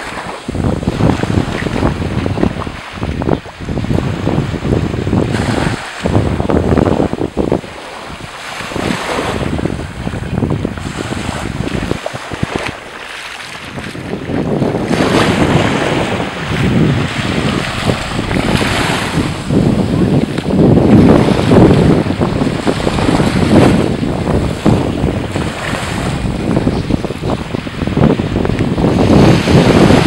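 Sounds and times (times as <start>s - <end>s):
small waves lapping on beach: 0.0s - 30.0s
wind buffeting microphone: 0.0s - 30.0s.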